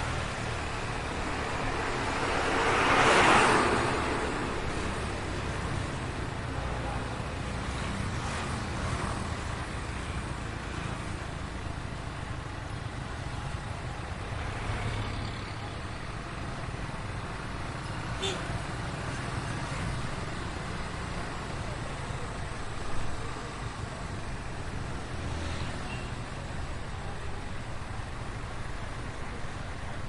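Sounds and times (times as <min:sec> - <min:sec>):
traffic rumble and road noise: 0:00.0 - 0:30.0.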